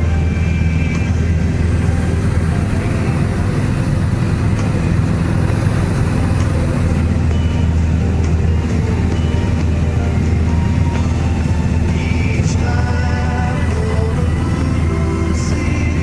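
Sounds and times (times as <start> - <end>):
small plane engine droning: 0.0 - 16.0.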